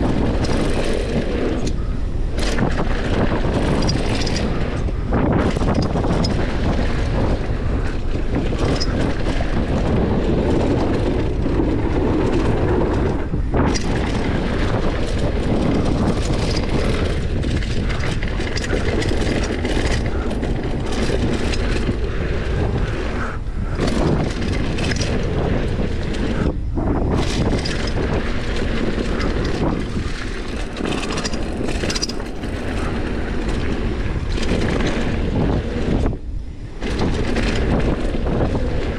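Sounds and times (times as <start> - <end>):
bike clattering: 0.0 - 38.9
tyres rolling over gravel: 0.0 - 38.9
wind on microphone: 0.0 - 38.9.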